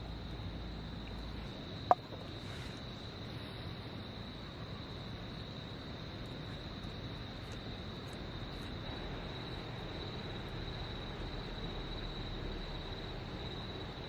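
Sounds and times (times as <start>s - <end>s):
background hiss: 0.0s - 14.0s
insects chirring: 0.0s - 14.0s.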